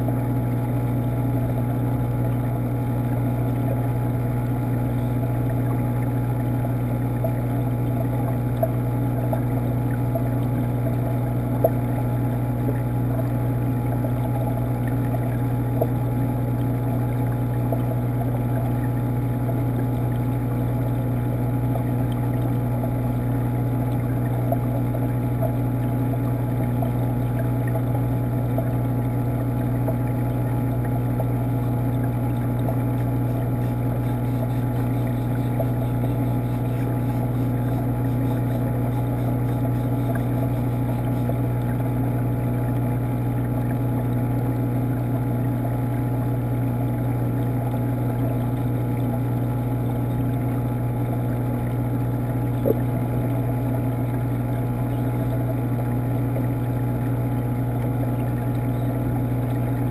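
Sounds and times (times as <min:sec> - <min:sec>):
aquarium water pump humming: 0:00.0 - 0:59.9.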